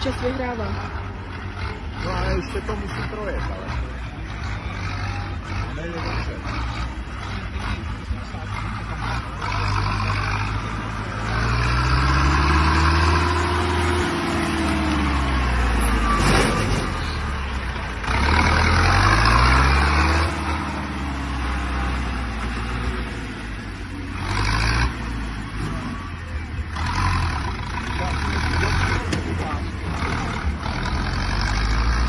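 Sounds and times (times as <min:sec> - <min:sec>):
tractor diesel engine revving: 0:00.0 - 0:32.0.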